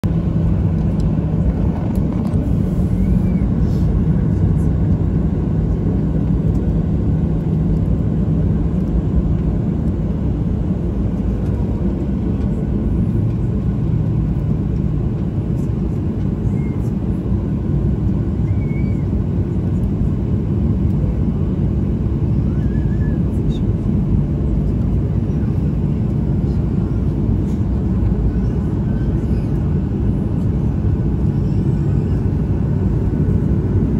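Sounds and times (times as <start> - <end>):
jet cabin low rumble: 0.0 - 33.9.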